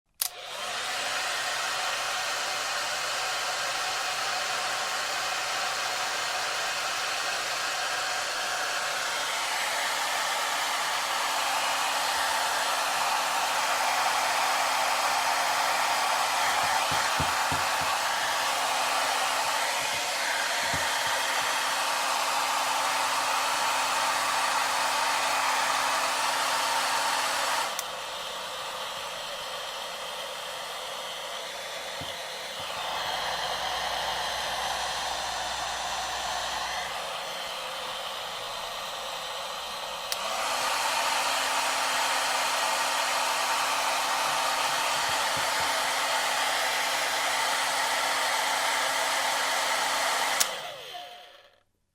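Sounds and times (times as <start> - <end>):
hair dryer blowing: 0.0 - 51.6.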